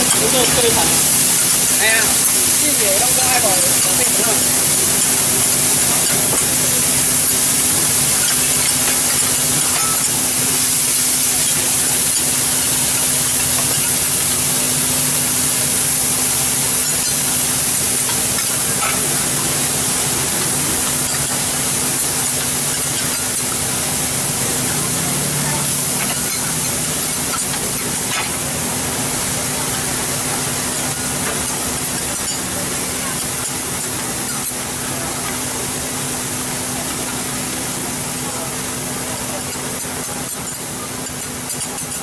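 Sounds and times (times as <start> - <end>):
bean sprouts sizzling on griddle: 0.0 - 42.0.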